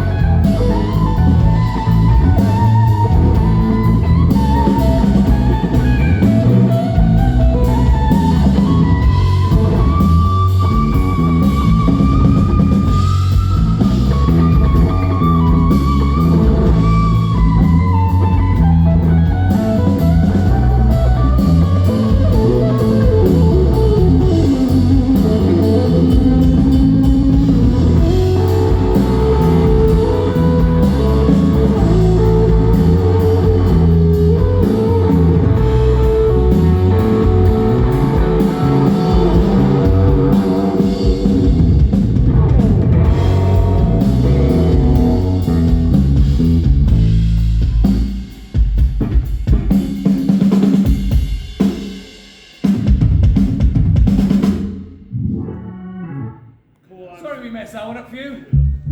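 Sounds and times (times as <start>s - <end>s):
electric guitar lead with bending notes: 0.0s - 48.2s, 55.0s - 56.7s
bass guitar: 0.0s - 51.8s, 52.6s - 56.8s, 58.5s - 58.9s
drums: 0.0s - 55.6s, 56.8s - 58.9s.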